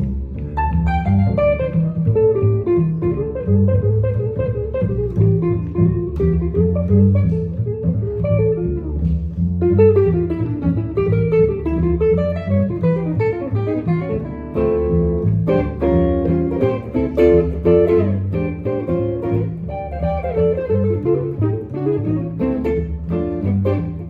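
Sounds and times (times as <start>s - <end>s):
bass playing low notes: 0.0s - 24.0s
jazz guitar playing: 0.0s - 24.0s.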